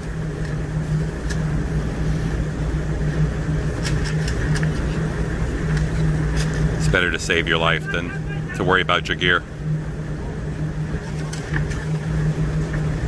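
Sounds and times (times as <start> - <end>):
ship machinery drone: 0.0 - 13.0.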